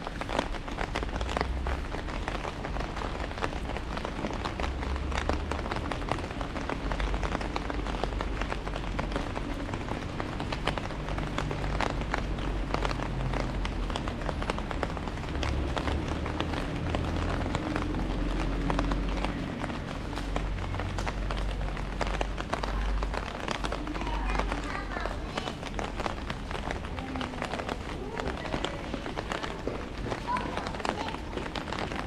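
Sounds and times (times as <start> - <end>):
heavy rain on an umbrella: 0.0 - 32.0.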